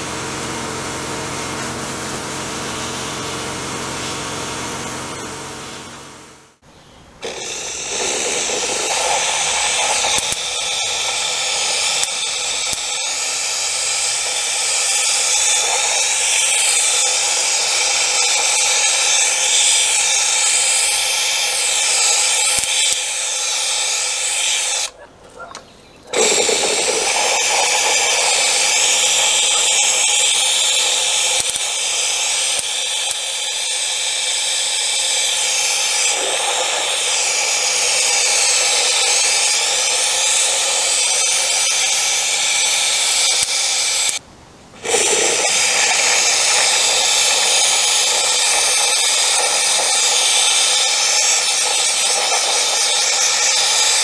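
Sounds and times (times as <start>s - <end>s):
spray gun hissing: 0.0s - 5.9s, 7.2s - 25.0s, 26.1s - 44.2s, 44.8s - 54.0s.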